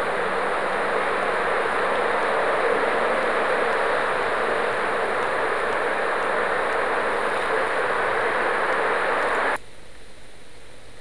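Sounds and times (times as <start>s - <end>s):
steady rushing noise: 0.0s - 9.6s
faint hiss: 0.0s - 11.0s.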